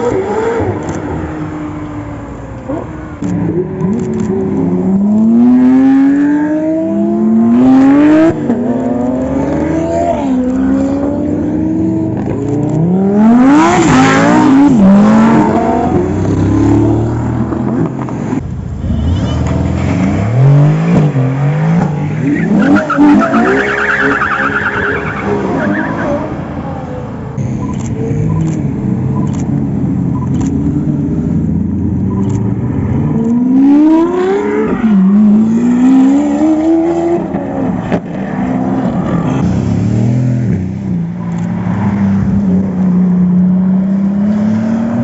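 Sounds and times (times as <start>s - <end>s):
car engines accelerating hard: 0.0s - 45.0s.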